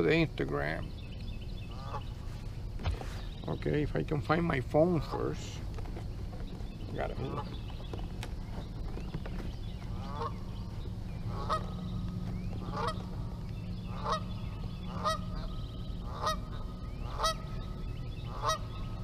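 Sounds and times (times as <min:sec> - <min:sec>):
bird calling: 0:00.0 - 0:19.0
low steady rumble: 0:00.0 - 0:19.0.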